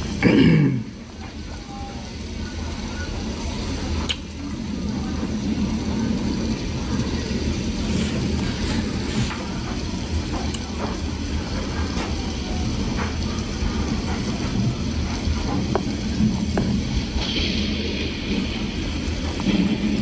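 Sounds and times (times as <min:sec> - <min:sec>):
low rumble: 0:02.0 - 0:20.0.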